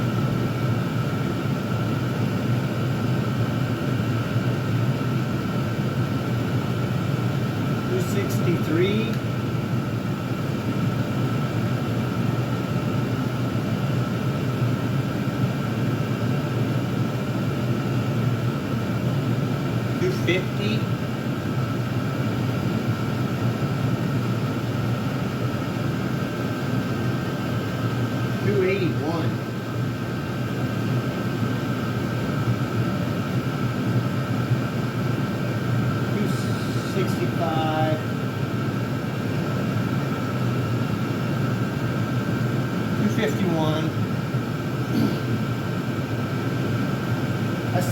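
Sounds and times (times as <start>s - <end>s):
air heater whoosh: 0.0s - 47.9s
faint whine: 0.0s - 47.9s.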